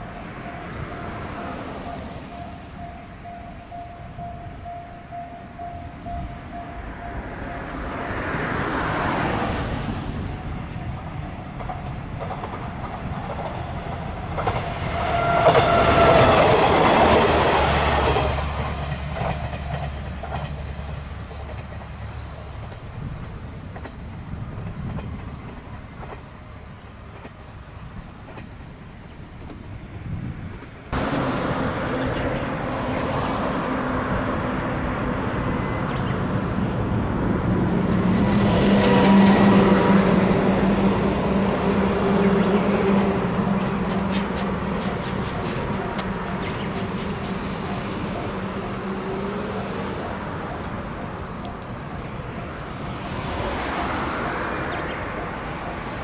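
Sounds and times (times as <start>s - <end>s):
distant diesel railcar engine drone: 0.0s - 56.0s
road traffic: 0.0s - 56.0s
train rail clatter: 0.0s - 56.0s.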